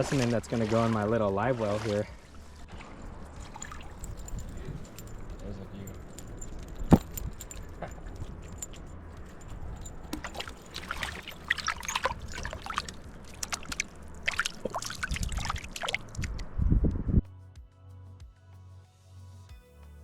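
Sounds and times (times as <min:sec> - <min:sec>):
water splashing and trickling: 0:00.0 - 0:17.2.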